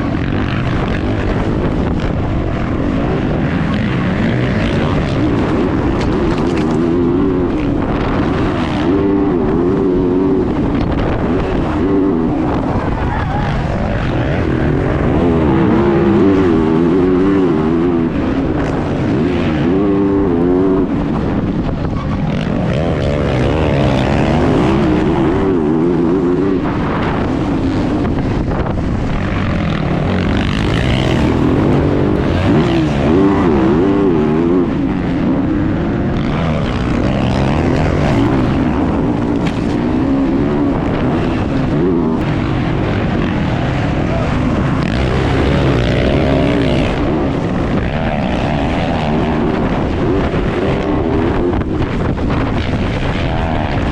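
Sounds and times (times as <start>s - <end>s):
motocross bike engine racing: 0.0s - 53.9s.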